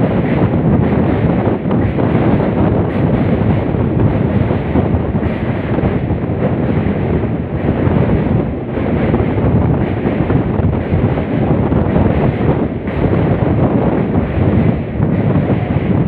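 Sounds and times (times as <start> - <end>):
moving train running noise: 0.0 - 16.0
wind blasting across microphone: 0.0 - 16.0.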